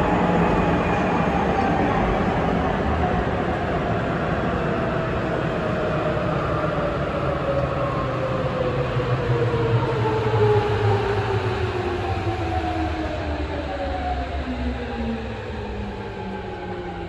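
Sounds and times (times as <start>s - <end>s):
subway car running: 0.0s - 17.0s.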